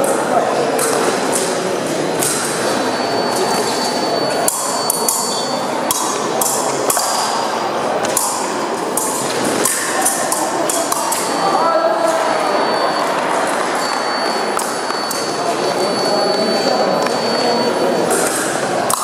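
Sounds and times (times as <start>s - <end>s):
fencing blades clashing: 0.0s - 12.4s, 13.0s - 15.7s, 18.0s - 19.0s
sports hall background hum: 0.0s - 19.0s.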